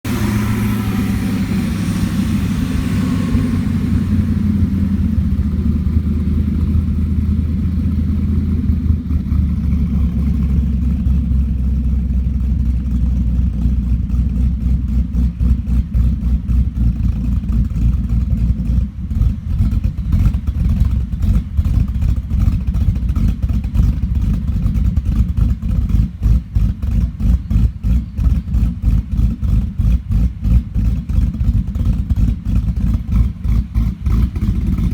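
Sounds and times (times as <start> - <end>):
engine lumpy idle: 0.0 - 34.9.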